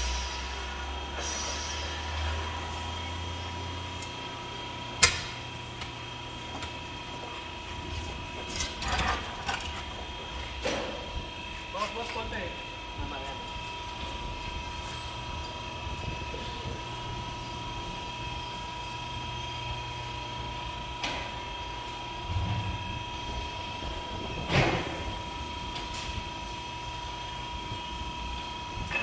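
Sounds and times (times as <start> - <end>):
mechanical hum of equipment: 0.0 - 29.0.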